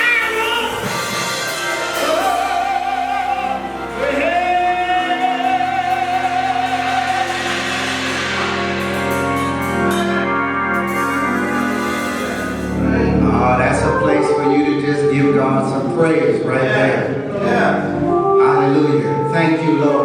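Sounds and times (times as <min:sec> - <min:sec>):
gospel singing: 0:00.0 - 0:20.0
keyboard chords: 0:00.0 - 0:20.0.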